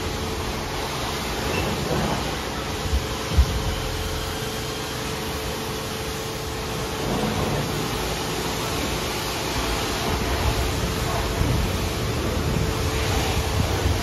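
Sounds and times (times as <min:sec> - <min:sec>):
car wash water hissing: 0:00.0 - 0:14.0.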